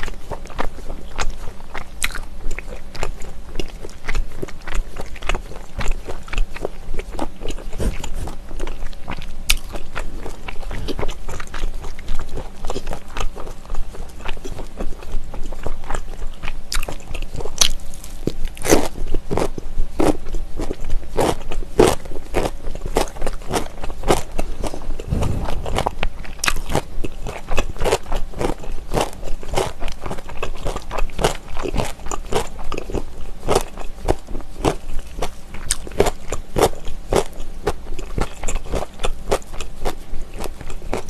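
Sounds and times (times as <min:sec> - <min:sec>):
wet chewing: 0:00.0 - 0:41.0.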